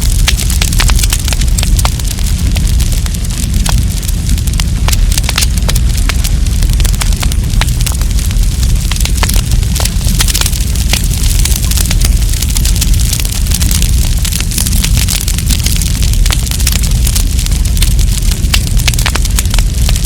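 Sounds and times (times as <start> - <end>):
campfire crackles and pops: 0.0 - 20.0
low rumble of flames: 0.0 - 20.0.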